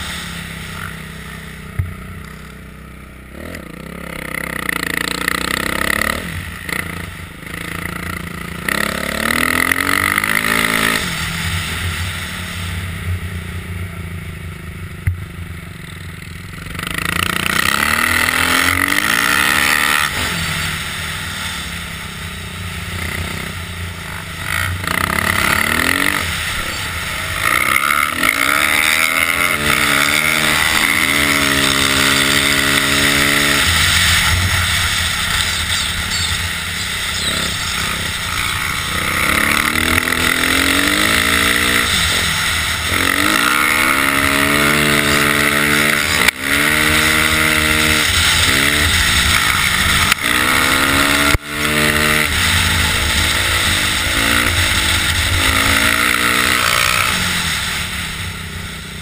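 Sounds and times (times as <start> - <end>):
motocross bike engine revving: 0.0 - 59.0
steady rushing noise: 0.0 - 59.0.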